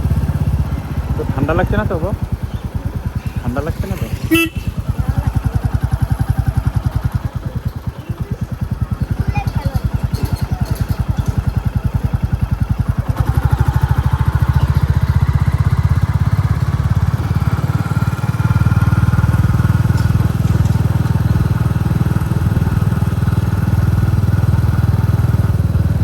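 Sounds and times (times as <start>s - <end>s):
motorcycle engine thumping: 0.0s - 26.0s.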